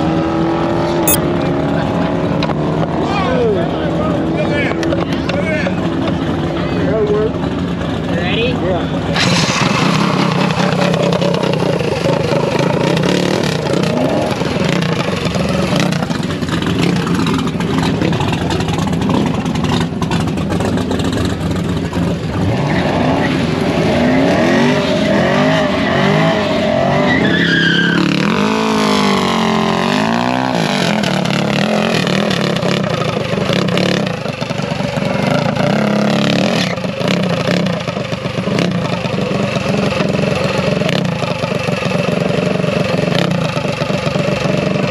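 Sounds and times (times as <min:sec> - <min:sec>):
engines droning and revving: 0:00.0 - 0:44.9.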